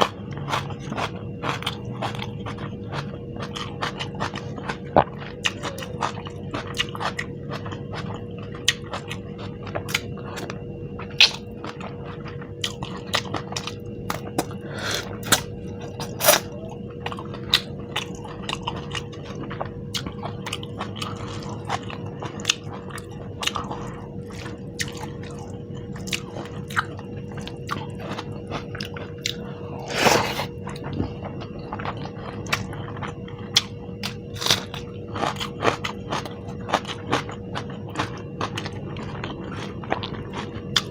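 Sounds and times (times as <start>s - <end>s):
chewing and lip-smacking: 0.0s - 40.9s
faint steady hum: 0.0s - 40.9s.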